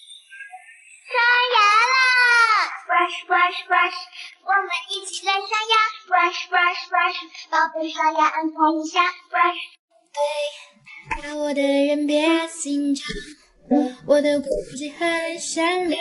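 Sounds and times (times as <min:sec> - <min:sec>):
child singing: 0:01.0 - 0:16.0.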